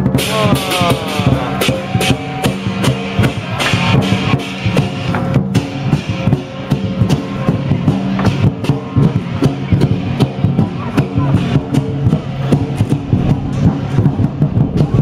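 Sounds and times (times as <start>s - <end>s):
big drum beating: 0.0s - 15.0s
cymbals clashing: 0.0s - 15.0s.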